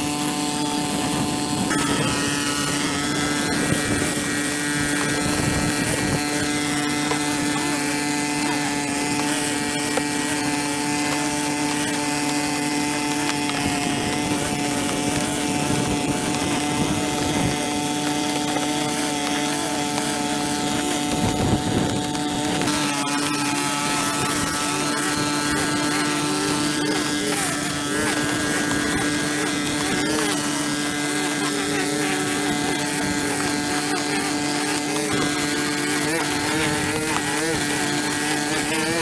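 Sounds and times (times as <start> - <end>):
small engine droning: 0.0 - 39.0.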